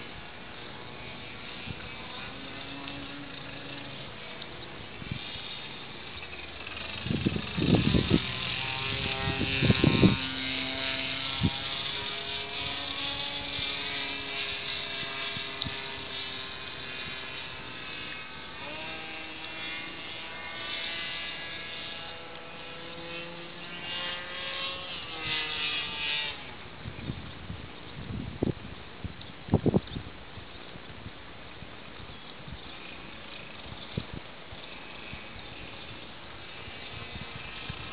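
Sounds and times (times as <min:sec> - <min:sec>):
model airplane motor buzzing: 0:00.0 - 0:37.9.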